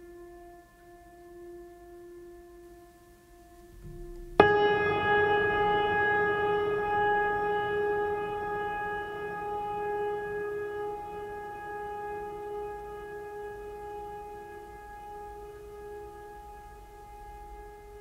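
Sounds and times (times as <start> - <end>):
soft steady musical tone: 0.0 - 18.0.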